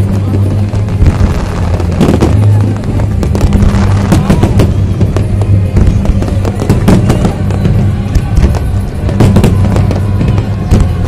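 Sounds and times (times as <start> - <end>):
fireworks bangs: 0.0 - 11.0
loud music with bass: 0.0 - 11.0.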